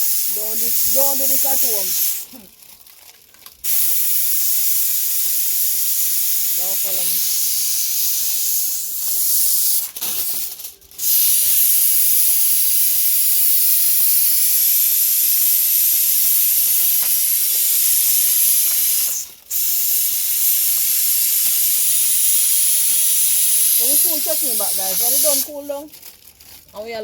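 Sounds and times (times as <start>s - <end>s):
pressure cooker venting steam: 0.0s - 2.5s, 3.6s - 25.8s.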